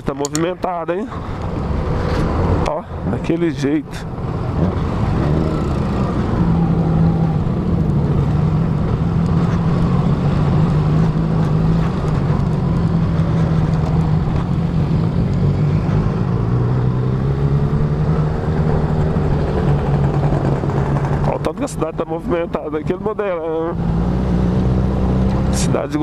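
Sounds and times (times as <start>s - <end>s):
motorcycle engine running: 4.1s - 26.0s.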